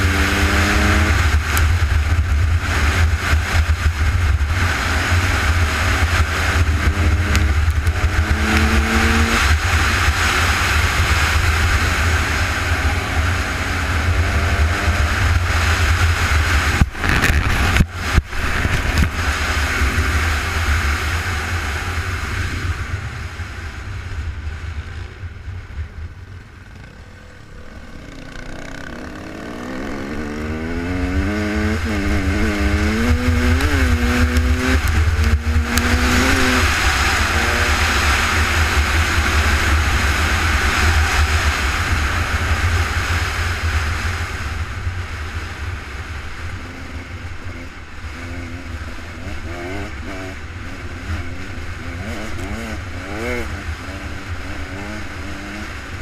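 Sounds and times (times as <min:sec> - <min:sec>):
off-road vehicle engine revving: 0:00.0 - 0:22.5, 0:26.7 - 0:44.7, 0:46.6 - 0:56.0.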